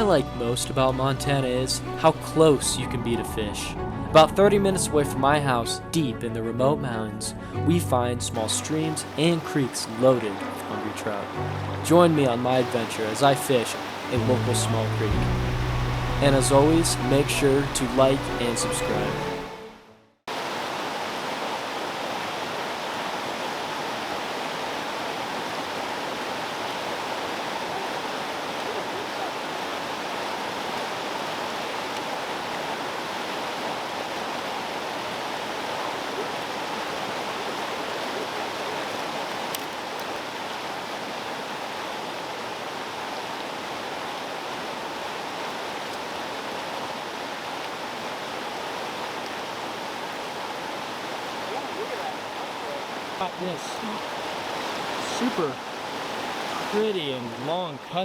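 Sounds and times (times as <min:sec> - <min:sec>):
mountain creek running: 0:08.1 - 0:58.0.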